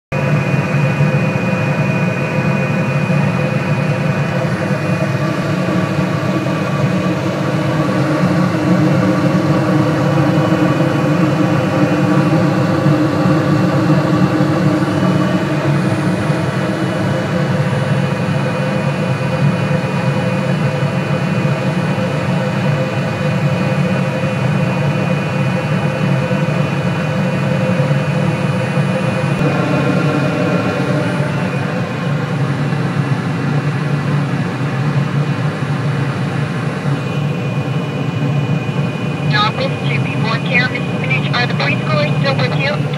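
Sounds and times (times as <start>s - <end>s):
rooftop hvac unit droning: 0.2s - 42.9s.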